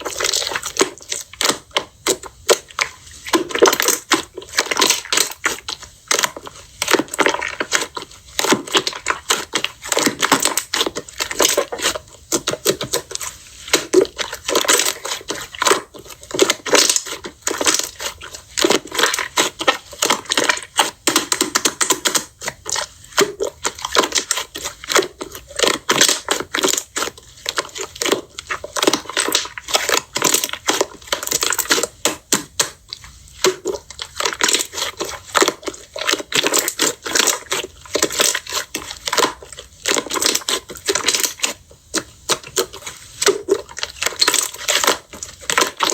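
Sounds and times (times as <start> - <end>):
hands squishing slime: 0.0 - 45.9.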